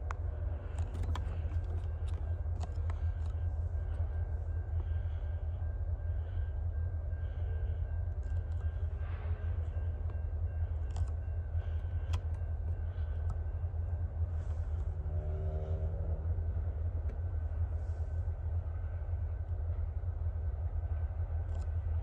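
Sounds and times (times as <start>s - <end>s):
distant locomotive rumble: 0.0s - 22.0s.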